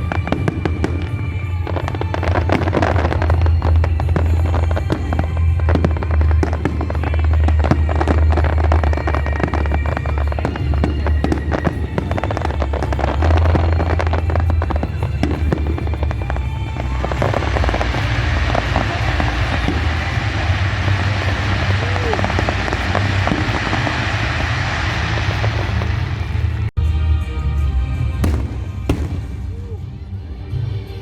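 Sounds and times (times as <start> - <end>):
fireworks bangs and crackles: 0.0 - 26.8, 27.8 - 30.8
low rumble: 0.0 - 30.7
music playing: 0.0 - 31.0.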